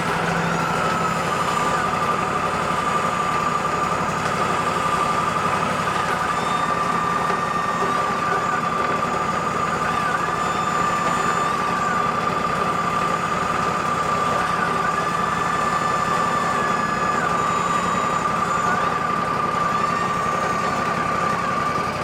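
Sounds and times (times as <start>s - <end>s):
high-pitched saw whine: 0.0s - 22.0s
sawmill engine drone: 0.0s - 22.0s.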